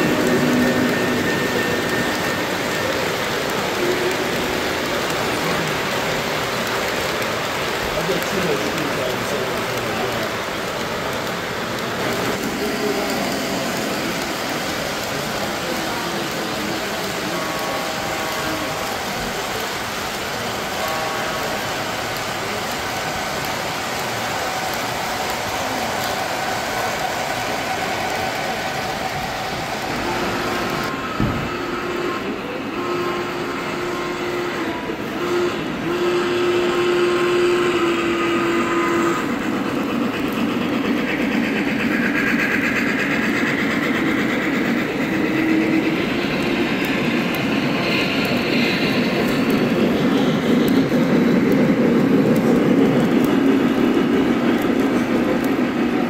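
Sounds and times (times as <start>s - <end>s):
model train wheels rumbling and clicking: 0.0s - 56.0s.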